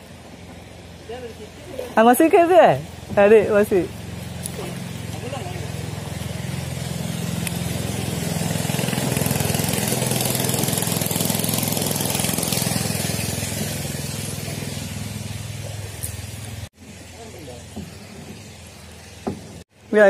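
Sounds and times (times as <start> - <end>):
small boat engine running: 0.0 - 19.6.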